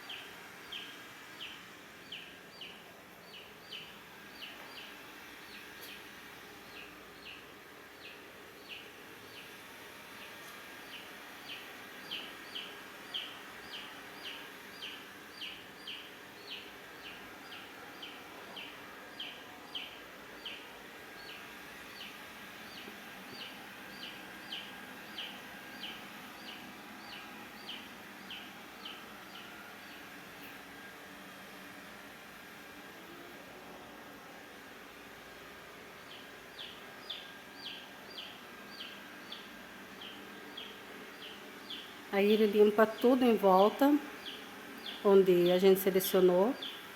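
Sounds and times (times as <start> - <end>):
robot vacuum humming: 0.0 - 46.9.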